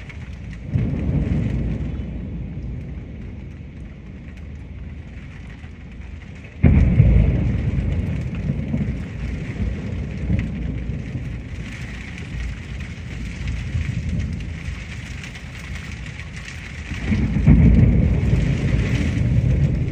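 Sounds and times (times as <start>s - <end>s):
deep rumbling: 0.0s - 19.9s
heavy rain falling: 0.0s - 19.9s.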